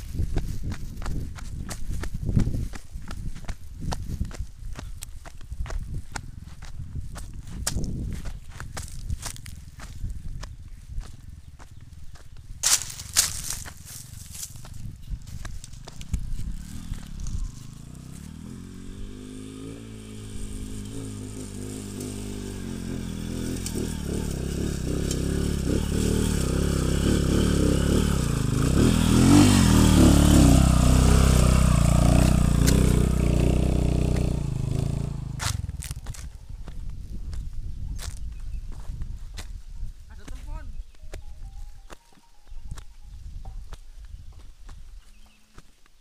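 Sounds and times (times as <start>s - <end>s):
motorcycle engine revving uphill: 0.0s - 39.0s.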